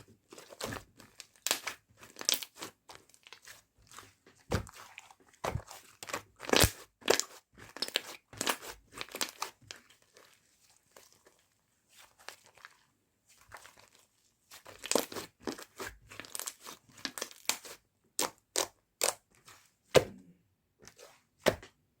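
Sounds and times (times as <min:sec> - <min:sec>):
slime crackling and crunching: 0:00.3 - 0:19.2.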